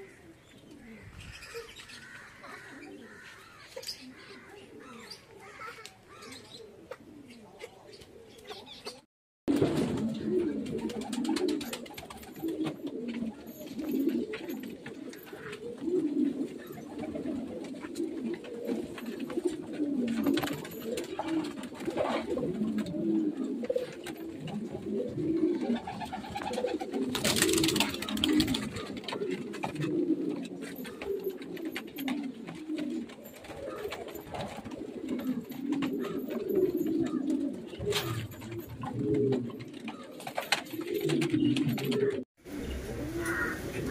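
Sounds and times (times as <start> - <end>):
pigeons cooing: 0.0 - 43.9.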